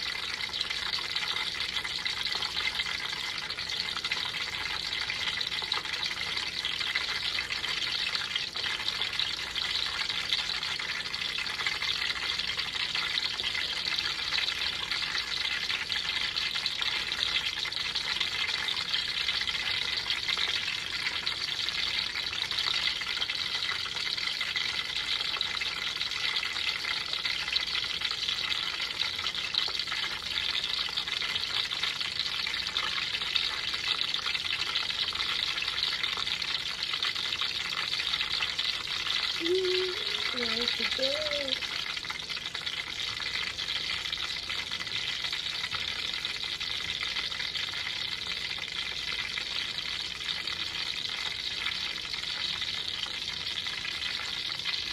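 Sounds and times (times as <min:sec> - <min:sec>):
oil sizzling in a frying pan: 0:00.0 - 0:54.9.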